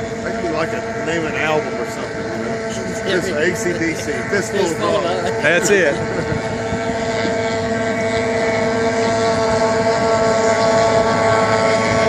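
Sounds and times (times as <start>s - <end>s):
outboard engines high-pitched drone: 0.0s - 12.0s.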